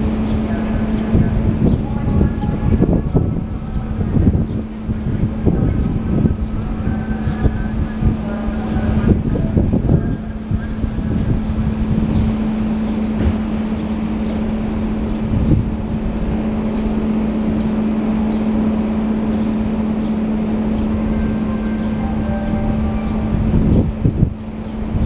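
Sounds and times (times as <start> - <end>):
electric locomotive hum: 0.0 - 25.0
train rumble: 0.0 - 25.0
wind on microphone: 0.0 - 25.0.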